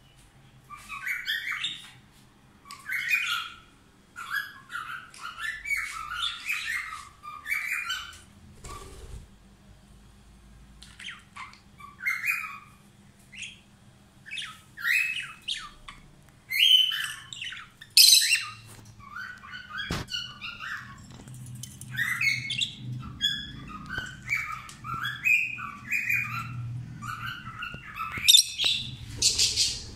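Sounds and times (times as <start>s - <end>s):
lovebirds chirping and squawking: 0.6s - 2.0s, 2.6s - 9.2s, 10.8s - 29.9s.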